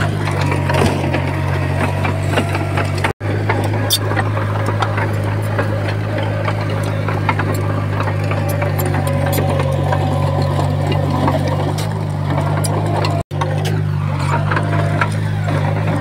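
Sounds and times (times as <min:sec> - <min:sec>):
diesel engine running under load: 0:00.0 - 0:16.0.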